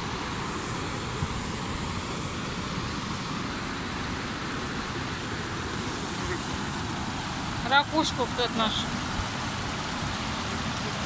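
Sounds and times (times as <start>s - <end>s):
water rushing over stones: 0.0s - 11.0s.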